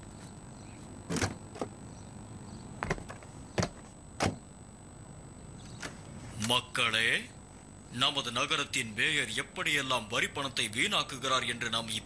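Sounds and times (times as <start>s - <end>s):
faint steady background noise: 0.0s - 12.0s.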